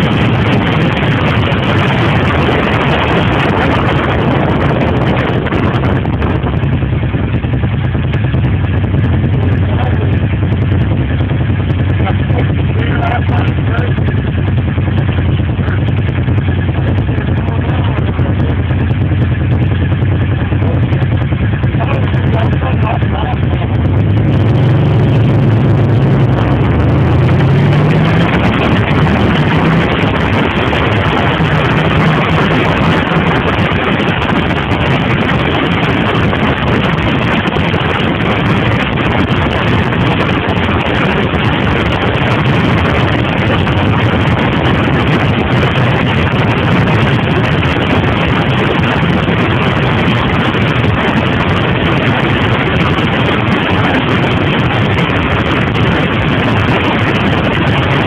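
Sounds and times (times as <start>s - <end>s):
wind rushing on microphone: 0.0s - 58.0s.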